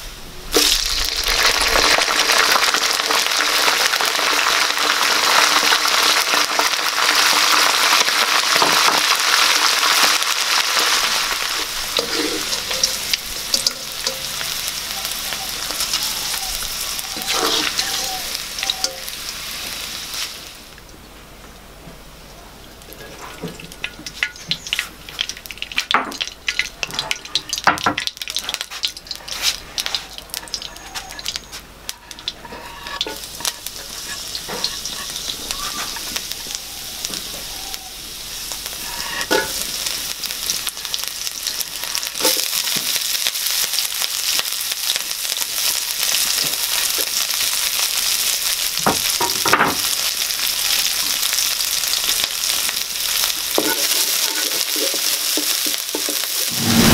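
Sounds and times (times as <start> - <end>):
oil crackling and sizzling in a wok: 0.0 - 56.9.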